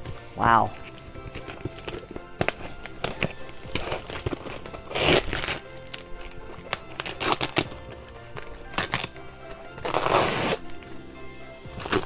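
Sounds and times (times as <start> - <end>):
background music: 0.0 - 12.0
packing material crinkling: 0.0 - 12.0.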